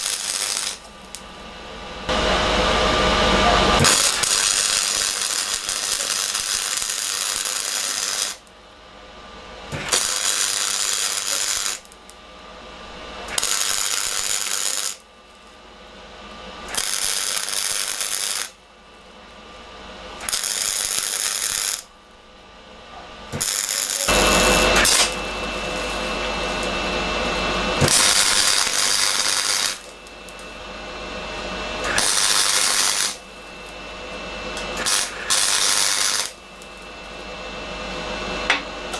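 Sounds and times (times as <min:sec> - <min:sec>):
welding arc crackling: 0:00.0 - 0:03.0, 0:03.7 - 0:08.6, 0:09.7 - 0:12.2, 0:13.2 - 0:15.6, 0:16.6 - 0:18.6, 0:20.1 - 0:22.0, 0:23.3 - 0:38.9.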